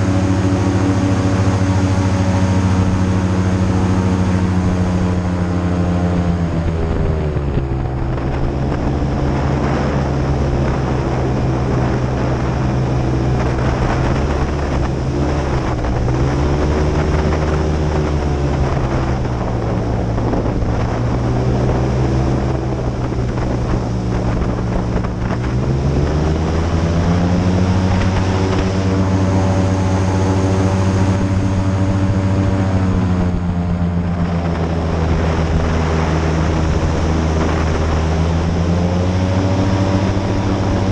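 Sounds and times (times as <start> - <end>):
airboat engine and propeller: 0.0 - 40.9.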